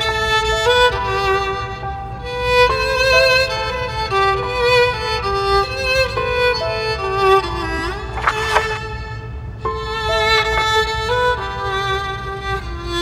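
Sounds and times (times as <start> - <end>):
slow violin melody: 0.0 - 13.0.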